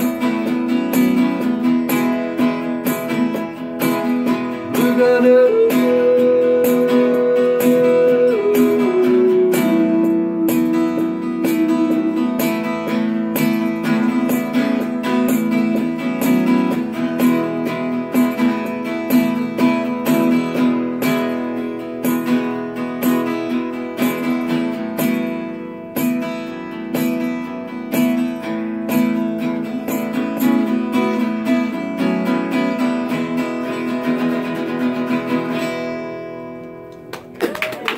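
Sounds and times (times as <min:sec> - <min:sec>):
acoustic guitar playing: 0:00.0 - 0:37.5.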